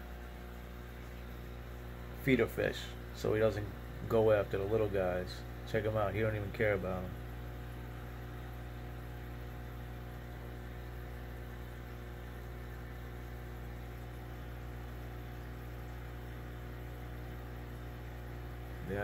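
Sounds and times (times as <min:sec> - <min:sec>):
aquarium filter hum: 0:00.0 - 0:19.0.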